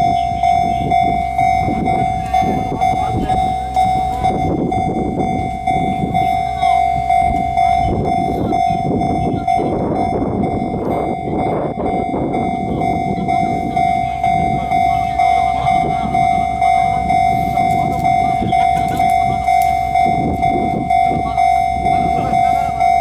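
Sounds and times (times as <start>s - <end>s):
dense background rumble: 0.0s - 23.0s
level crossing warning bell: 0.0s - 23.0s.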